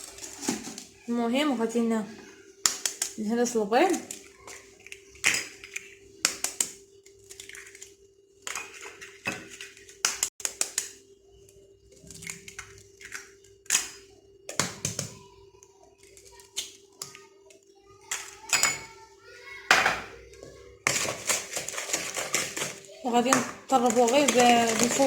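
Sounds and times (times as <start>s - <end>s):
eggs cracking on a bowl: 2.6s - 3.3s, 3.9s - 18.9s, 19.7s - 25.0s.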